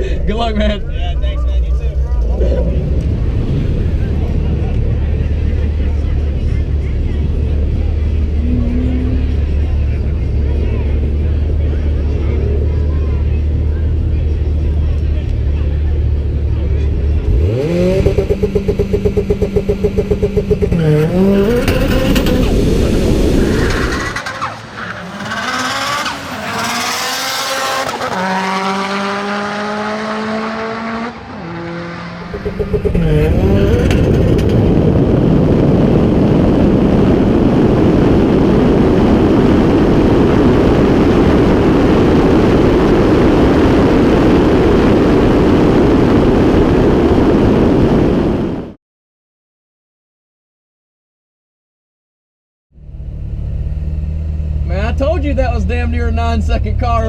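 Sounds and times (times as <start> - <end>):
car engine revving and accelerating: 0.0 - 48.6
loud steady rushing noise: 0.0 - 48.8.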